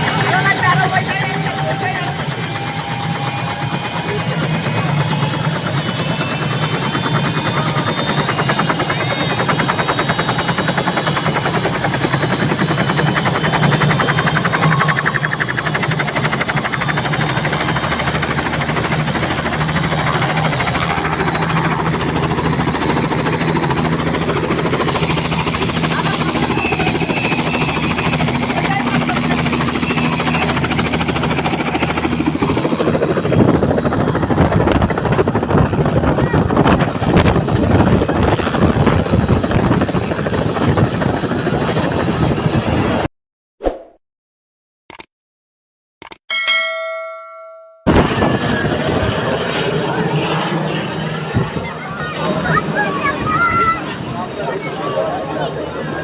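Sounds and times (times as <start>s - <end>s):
helicopter engine hum: 0.0s - 43.1s, 46.5s - 56.0s
helicopter rotor chop: 0.0s - 43.1s, 47.8s - 56.0s.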